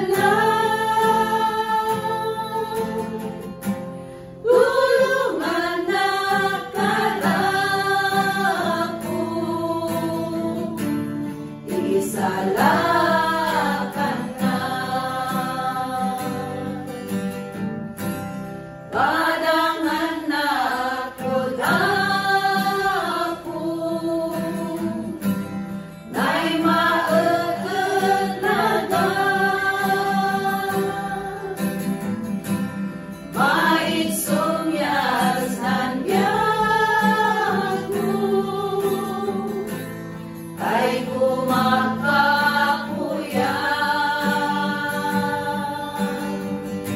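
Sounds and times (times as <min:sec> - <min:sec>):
women singing a hymn: 0:00.0 - 0:03.8, 0:04.4 - 0:17.1, 0:18.9 - 0:32.1, 0:33.3 - 0:46.9
acoustic guitar: 0:00.0 - 0:46.9.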